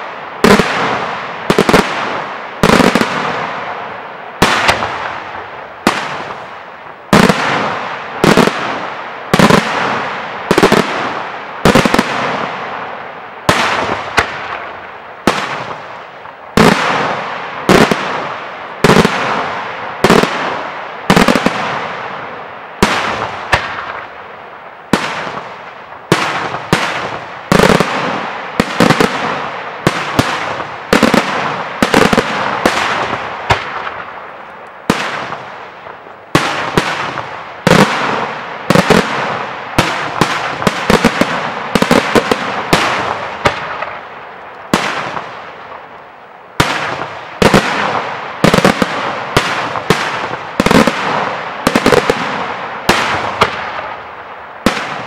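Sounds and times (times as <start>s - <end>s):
fireworks bursting with echo: 0.0s - 55.0s.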